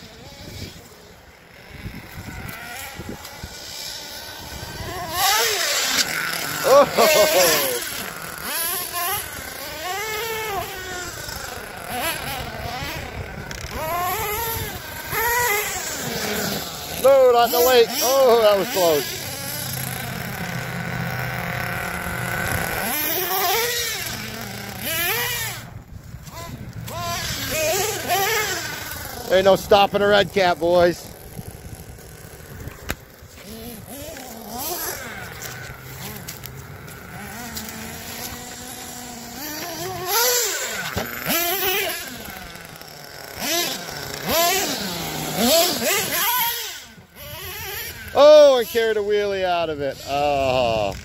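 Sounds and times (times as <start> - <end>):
small engine revving whine: 0.0 - 51.0.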